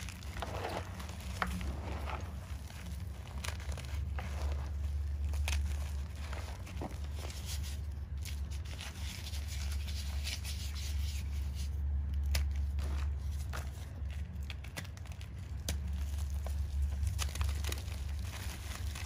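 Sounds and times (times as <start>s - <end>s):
chalk crunching and crackling: 0.0s - 19.0s
steady low hum: 0.0s - 19.0s.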